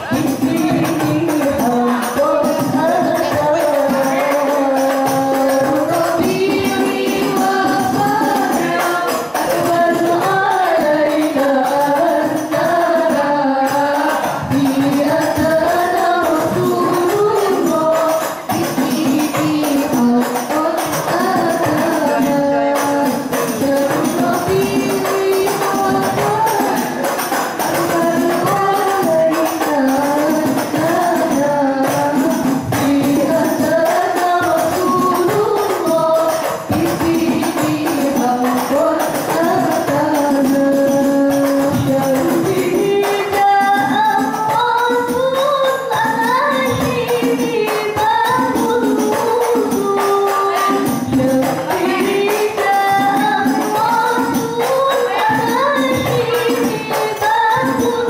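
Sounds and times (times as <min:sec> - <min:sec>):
girls singing in unison: 0:00.0 - 0:58.0
tambourine and frame drum: 0:00.0 - 0:58.0.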